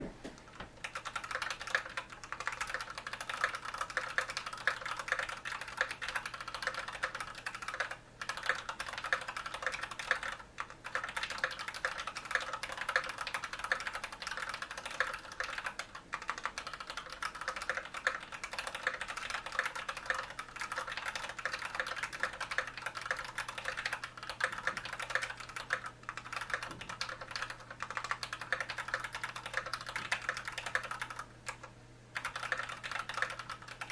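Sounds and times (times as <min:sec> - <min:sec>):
fast typing on mechanical keyboard: 0:00.5 - 0:33.9.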